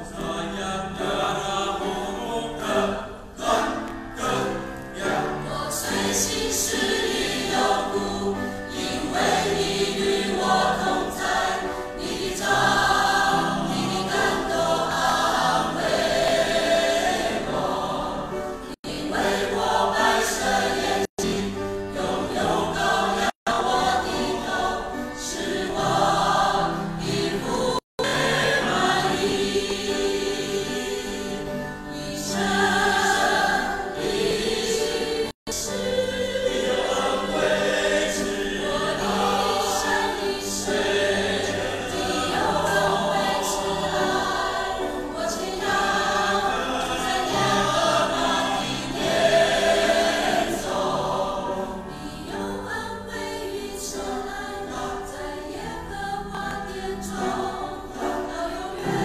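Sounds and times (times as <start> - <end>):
church choir singing a hymn: 0.0 - 59.0.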